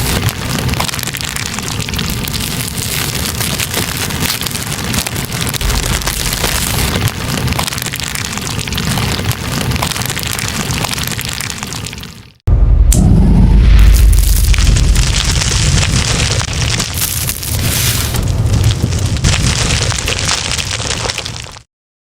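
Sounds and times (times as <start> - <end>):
metal sponge burning crackling: 0.0 - 12.2, 13.6 - 21.6.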